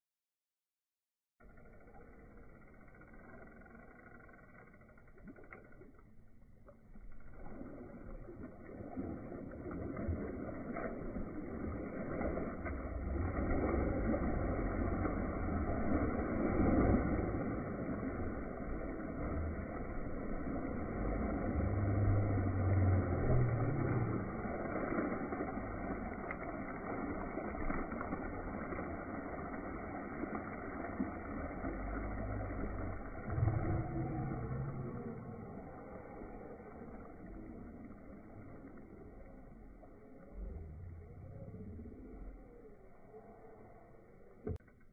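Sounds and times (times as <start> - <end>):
muffled splashing of river water: 1.4 - 44.9
steady low rumble: 1.4 - 44.9.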